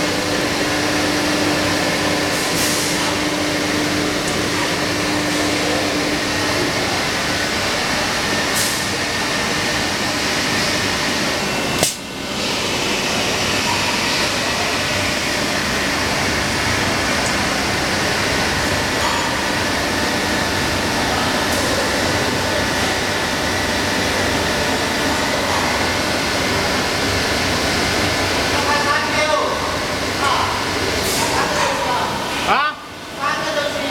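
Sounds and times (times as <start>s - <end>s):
injection molding machine running: 0.0s - 33.9s.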